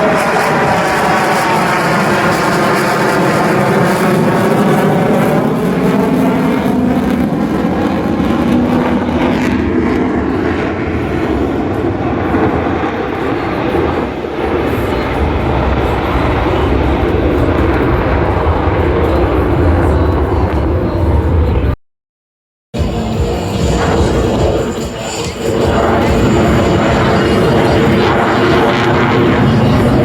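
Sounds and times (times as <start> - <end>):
fighter jet flying past: 0.0 - 21.8, 22.8 - 30.0.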